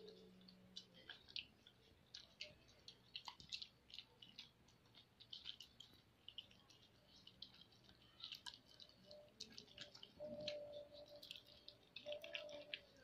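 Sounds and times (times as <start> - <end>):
dog licking wet smacking: 0.0 - 13.0.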